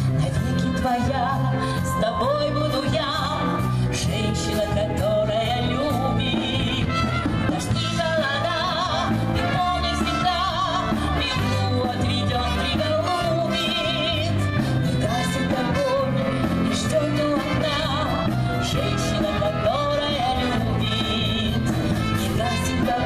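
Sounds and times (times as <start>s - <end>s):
brass band playing dance music: 0.0s - 23.0s.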